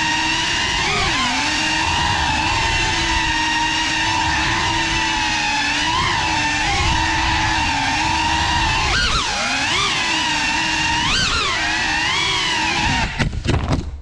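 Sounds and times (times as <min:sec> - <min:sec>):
drone propellers whining: 0:00.0 - 0:13.2.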